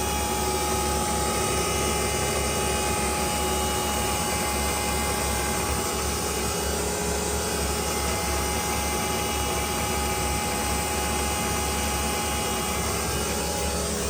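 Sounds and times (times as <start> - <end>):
low machine hum: 0.0 - 14.0
machine whining tones: 0.0 - 14.0.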